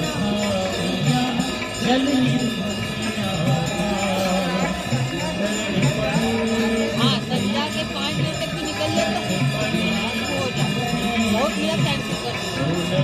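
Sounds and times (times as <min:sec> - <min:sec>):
hymn sung to music: 0:00.0 - 0:11.7
bells ringing: 0:00.0 - 0:13.0.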